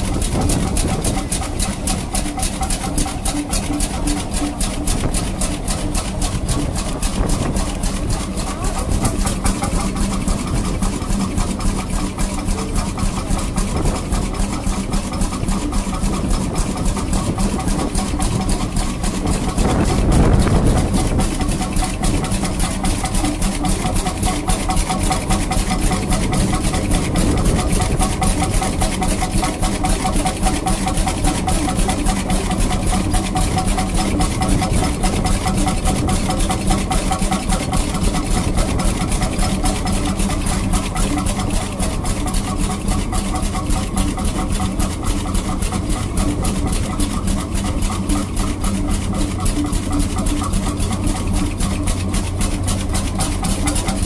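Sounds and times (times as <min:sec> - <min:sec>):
stationary engines running: 0:00.0 - 0:54.0.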